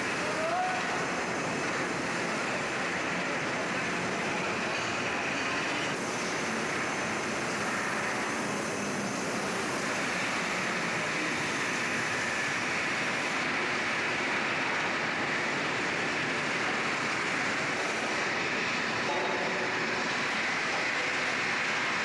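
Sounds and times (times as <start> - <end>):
machinery and air noise: 0.0 - 22.0.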